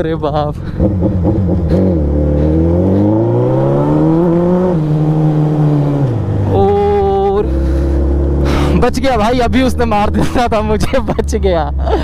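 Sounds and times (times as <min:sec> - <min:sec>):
motorcycle engine accelerating hard: 0:00.7 - 0:10.4.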